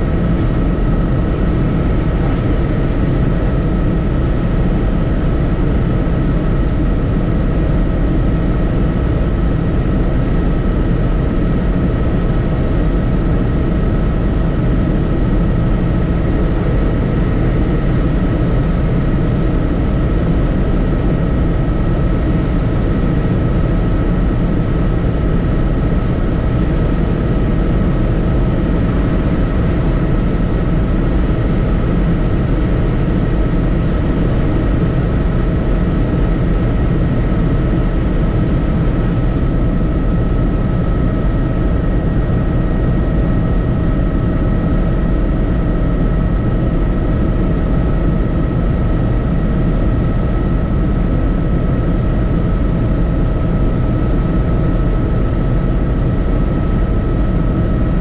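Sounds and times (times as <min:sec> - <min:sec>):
helicopter rotor drone: 0:00.0 - 0:58.0.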